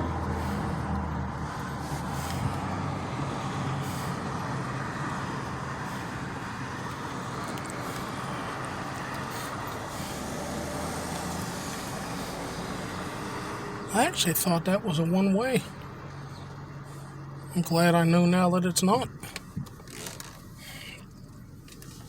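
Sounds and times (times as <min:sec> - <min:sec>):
car engine hum: 0:00.0 - 0:22.0
road noise: 0:00.0 - 0:22.0.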